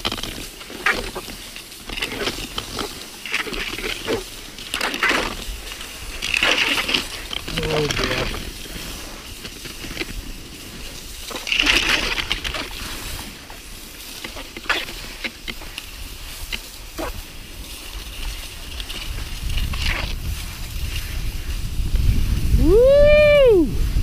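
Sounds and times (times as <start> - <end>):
skis hissing over snow: 0.0 - 24.0.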